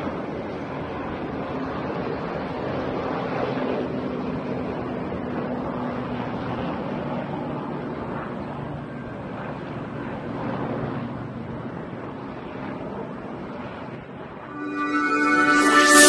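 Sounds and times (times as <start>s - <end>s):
helicopter engine and rotors droning: 0.0s - 14.6s.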